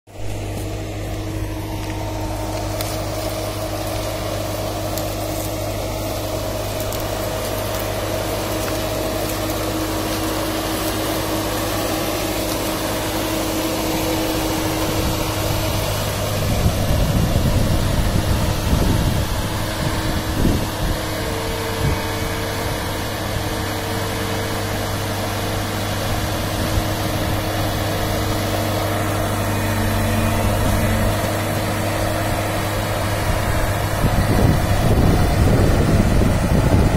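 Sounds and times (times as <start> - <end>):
engine running steadily: 0.1 - 36.9.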